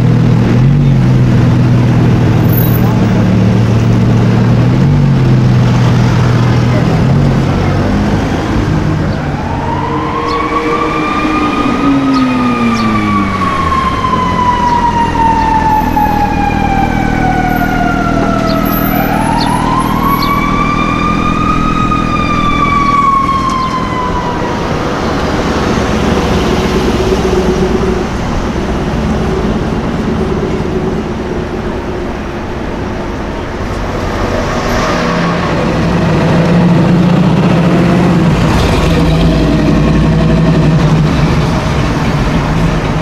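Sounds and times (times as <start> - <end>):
city traffic noise: 0.0 - 43.0
emergency siren wailing: 0.5 - 43.0.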